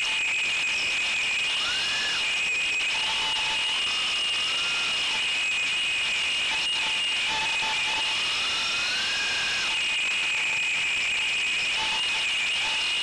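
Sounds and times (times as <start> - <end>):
drone motors whining: 0.1 - 13.0.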